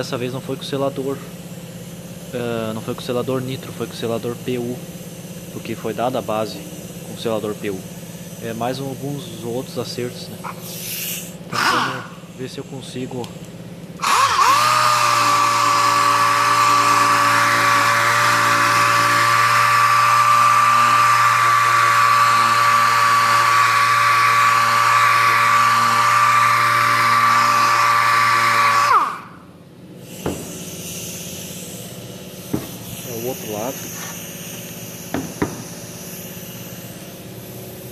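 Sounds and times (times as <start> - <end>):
orbital sander whining: 0.0 - 13.3, 14.0 - 37.9.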